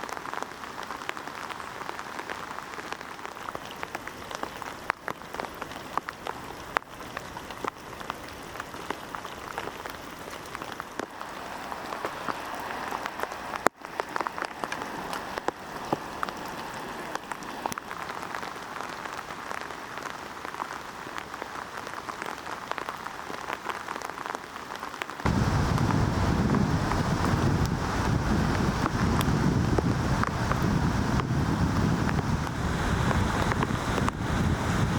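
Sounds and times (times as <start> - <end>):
rain drops striking surface: 0.0 - 34.9
steady rain hiss: 0.0 - 34.9.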